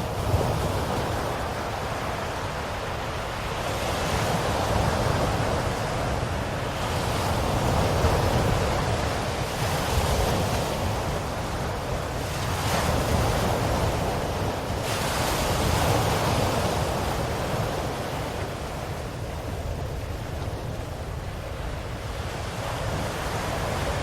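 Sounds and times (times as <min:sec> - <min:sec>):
ocean waves washing onto shore: 0:00.0 - 0:24.0.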